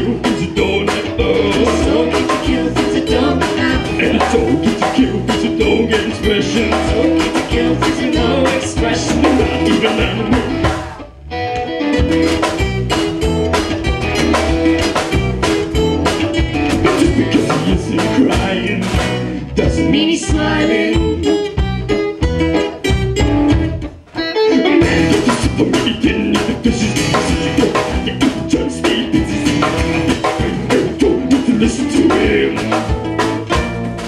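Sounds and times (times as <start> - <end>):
drum kit beat: 0.0 - 34.0
electric guitar: 0.0 - 34.0
strummed acoustic guitars: 0.0 - 34.0.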